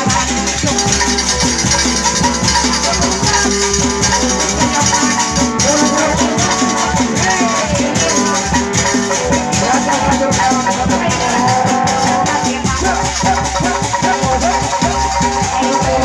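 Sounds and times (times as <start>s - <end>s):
fast steady drumbeat: 0.0s - 16.0s
held melody tones: 0.0s - 16.0s
rattling percussion: 0.0s - 16.0s.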